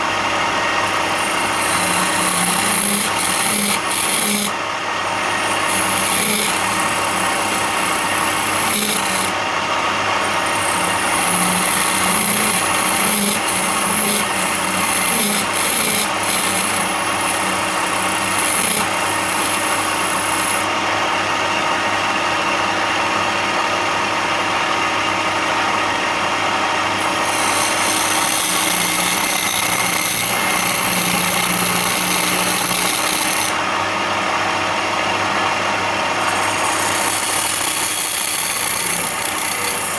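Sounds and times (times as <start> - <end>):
power tool sanding wood: 0.0 - 21.6, 25.5 - 33.8, 34.8 - 39.9.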